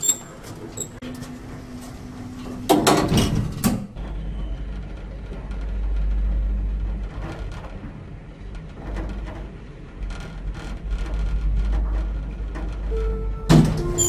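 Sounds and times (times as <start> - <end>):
lift car low rumble: 0.0 - 14.0
faint rattles and clicks: 2.7 - 14.0.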